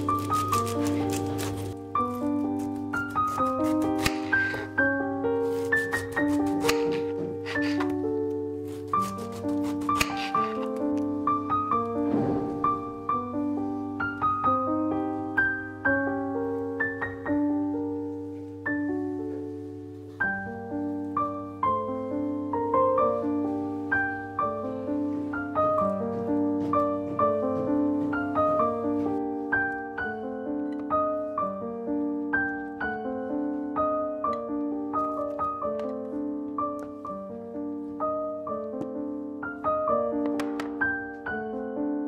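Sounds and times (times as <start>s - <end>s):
gentle piano music: 0.0s - 42.0s.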